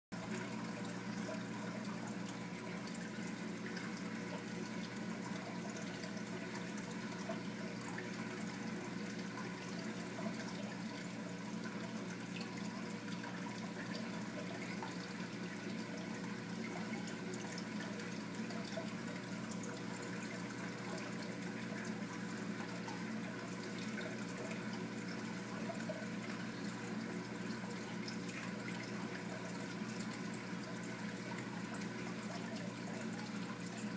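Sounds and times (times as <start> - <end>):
low pump hum: 0.1 - 33.9
trickle of falling water: 0.2 - 33.9
water circulating: 0.2 - 33.9.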